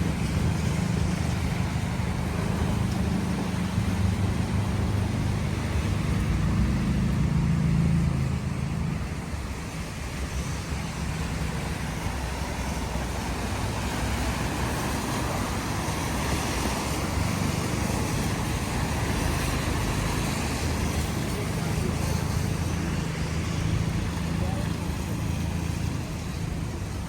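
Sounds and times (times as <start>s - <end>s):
cars passing on wet road: 0.0s - 27.0s.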